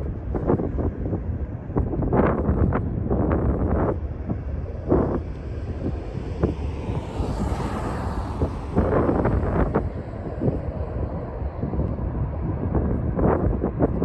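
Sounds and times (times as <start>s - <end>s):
steady low rumble: 0.0s - 14.0s
wind buffeting microphone: 0.0s - 14.0s.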